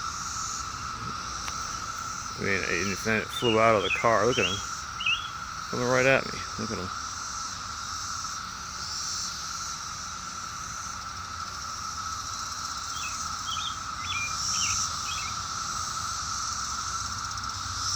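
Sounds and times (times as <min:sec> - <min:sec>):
cicadas droning: 0:00.0 - 0:17.9.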